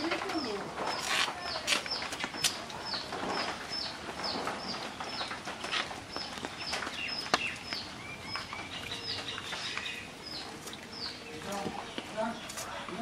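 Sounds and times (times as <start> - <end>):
other birds chirping: 0.0 - 13.0.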